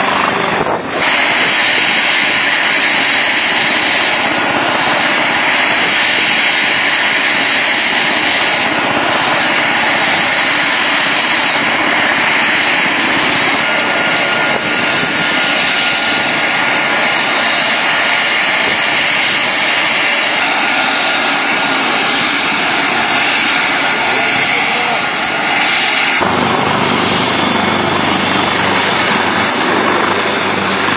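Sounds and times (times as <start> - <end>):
helicopter engine and rotor noise: 0.0 - 30.9
high steady whine: 0.0 - 30.9.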